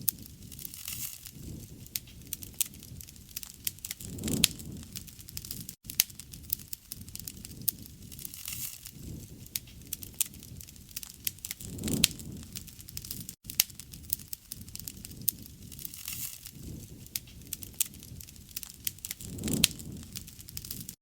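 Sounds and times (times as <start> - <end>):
low rush of flame: 0.0 - 21.0
wood fire popping: 0.0 - 21.0.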